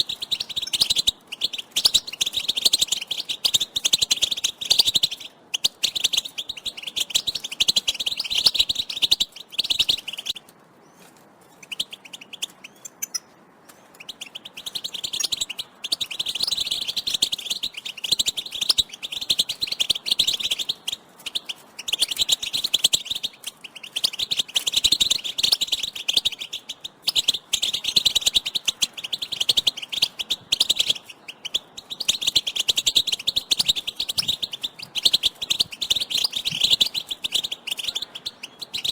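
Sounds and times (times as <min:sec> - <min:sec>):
finches twittering: 0:00.0 - 0:10.4, 0:13.9 - 0:38.9.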